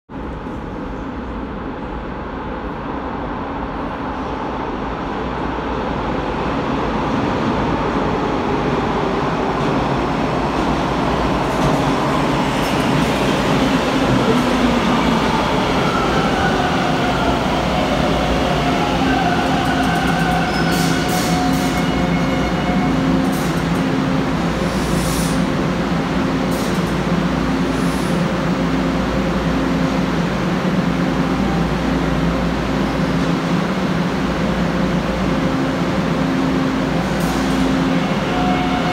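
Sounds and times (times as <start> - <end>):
subway train wheels rumbling: 0.1 - 38.9
train humming at platform: 0.1 - 38.9.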